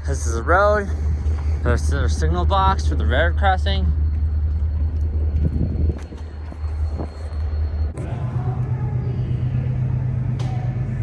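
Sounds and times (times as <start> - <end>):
higher steady rumble: 0.0 - 11.0
vehicle engine rumble: 0.0 - 11.0.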